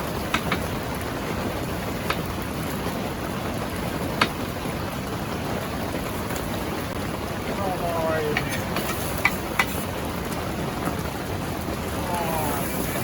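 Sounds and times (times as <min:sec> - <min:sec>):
flooded river rushing: 0:00.0 - 0:13.0
heavy rain on a tent: 0:00.0 - 0:13.0.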